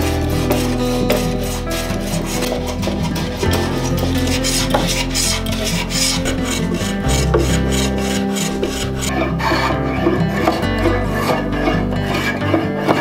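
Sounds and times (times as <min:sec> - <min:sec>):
acoustic guitar music: 0:00.0 - 0:13.0
hand tool rasping wood: 0:00.0 - 0:13.0.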